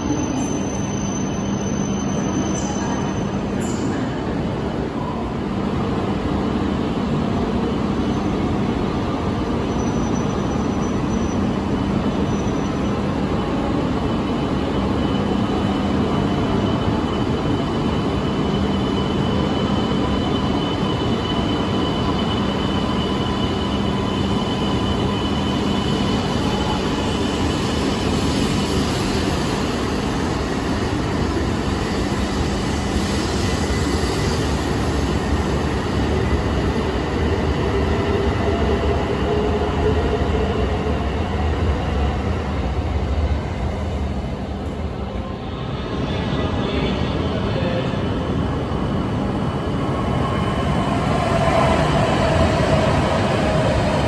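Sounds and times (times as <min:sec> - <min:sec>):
train running through station: 0:00.0 - 0:54.0.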